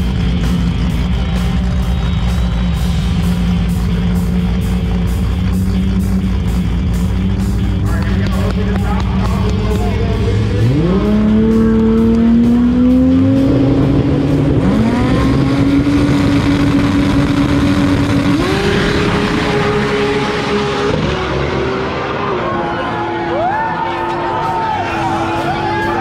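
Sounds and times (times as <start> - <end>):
drag racing car engine revving: 0.0 - 26.0.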